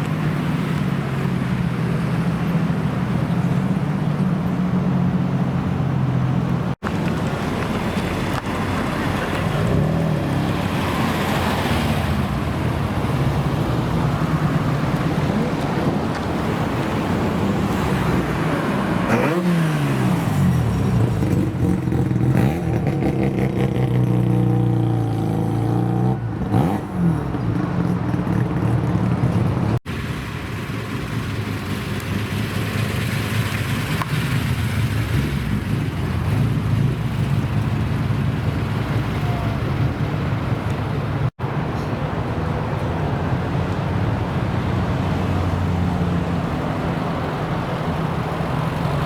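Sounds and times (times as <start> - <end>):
car engines revving: 0.0 - 49.0.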